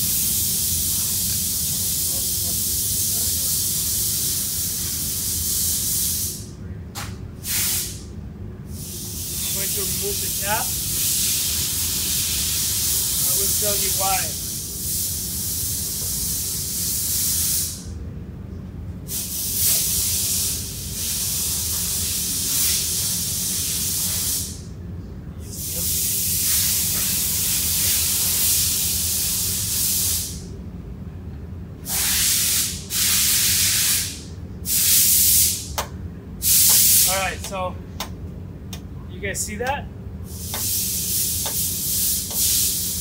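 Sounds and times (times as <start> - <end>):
loud hissing bursts: 0.0 - 6.5, 7.4 - 8.1, 8.7 - 17.9, 19.1 - 24.7, 25.5 - 30.5, 31.8 - 35.8, 36.4 - 37.7, 40.2 - 43.0
steady low hum: 0.0 - 43.0.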